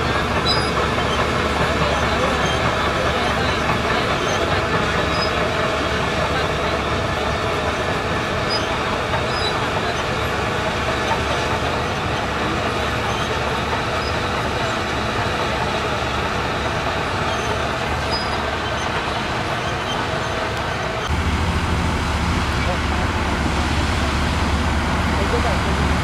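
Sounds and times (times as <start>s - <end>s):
bulldozer driving on soil: 0.0s - 26.0s.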